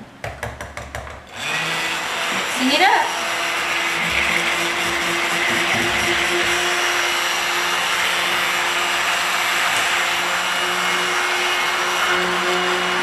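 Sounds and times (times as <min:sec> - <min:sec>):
stick blender motor hum: 0:01.3 - 0:13.0.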